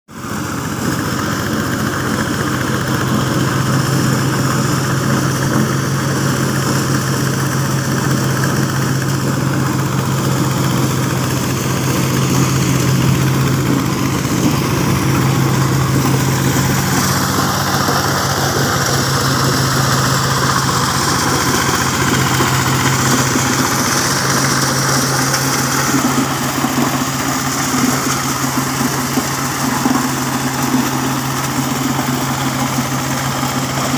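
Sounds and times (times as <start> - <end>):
engine hum: 0.1 - 33.9
threshing drum and fans whirring: 0.1 - 33.9.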